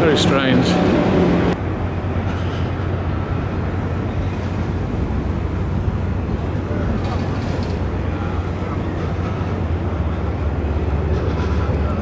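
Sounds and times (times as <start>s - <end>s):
distant engines rumbling: 0.0s - 12.0s.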